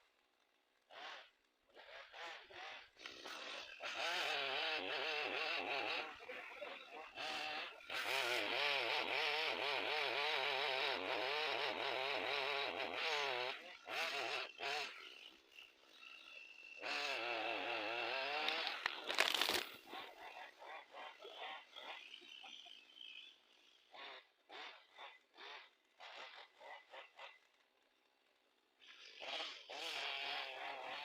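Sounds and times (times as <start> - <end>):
chainsaw cutting: 0.0 - 31.0.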